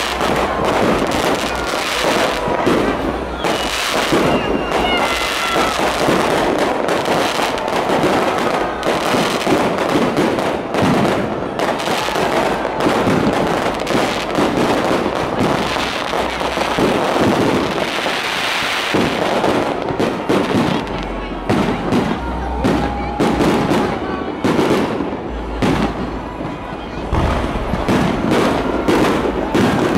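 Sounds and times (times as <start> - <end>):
fireworks crackling and popping: 0.0 - 29.9.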